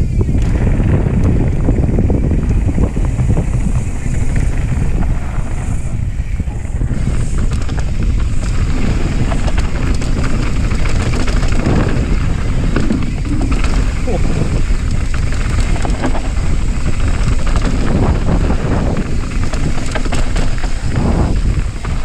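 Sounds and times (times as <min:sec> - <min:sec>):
bike rattling over bumps: 0:00.0 - 0:22.0
tyres rumbling over dirt: 0:00.0 - 0:22.0
wind buffeting microphone: 0:00.0 - 0:22.0.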